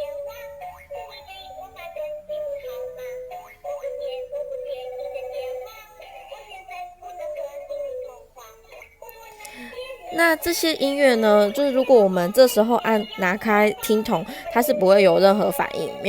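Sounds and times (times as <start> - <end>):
synthesized singing voice: 0.0 - 16.0
toy telephone children's song: 0.0 - 16.0.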